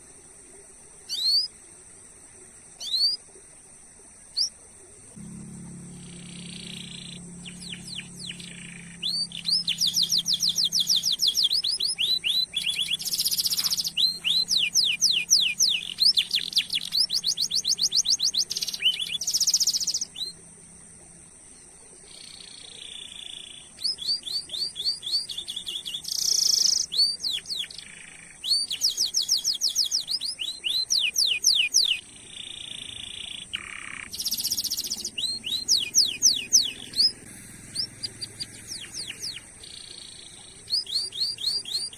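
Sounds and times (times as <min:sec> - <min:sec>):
canary singing: 0:05.1 - 0:20.7, 0:22.0 - 0:41.9.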